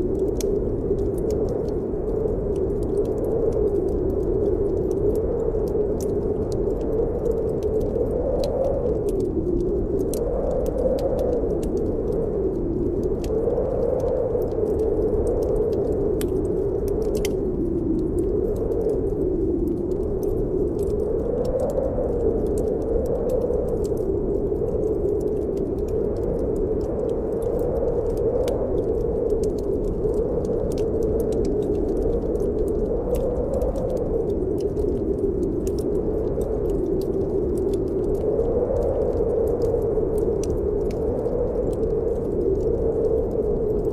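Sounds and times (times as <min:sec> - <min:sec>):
wind howling: 0:00.0 - 0:43.9
wood fire crackling: 0:00.0 - 0:43.9.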